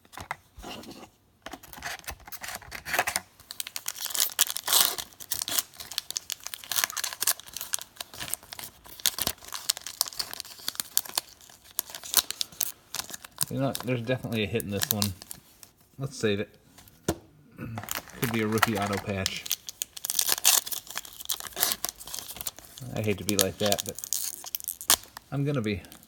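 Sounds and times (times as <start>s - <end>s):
wrapper tearing and crinkling: 2.3s - 15.7s, 17.8s - 26.0s.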